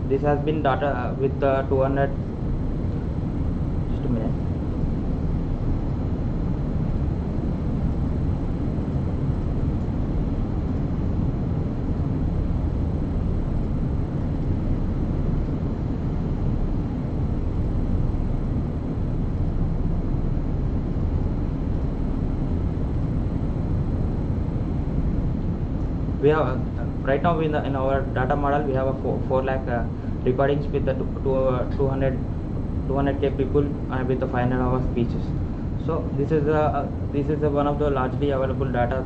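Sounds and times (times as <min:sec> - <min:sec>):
low rumbling room noise: 0:00.0 - 0:39.0.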